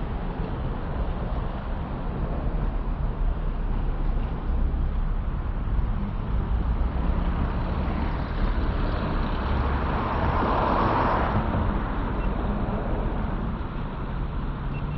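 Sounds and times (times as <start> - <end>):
traffic noise: 0.0 - 14.9.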